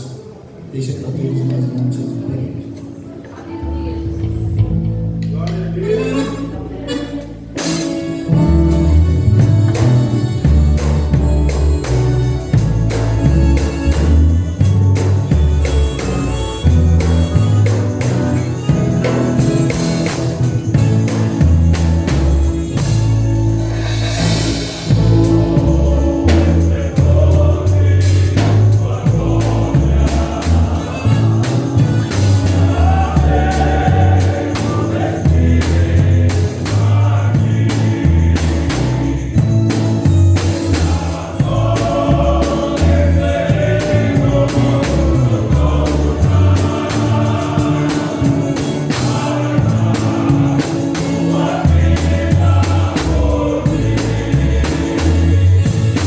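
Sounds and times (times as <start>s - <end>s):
group singing gospel: 3.2s - 56.0s
heavy bass line: 8.3s - 56.0s
drum beat: 9.4s - 56.0s.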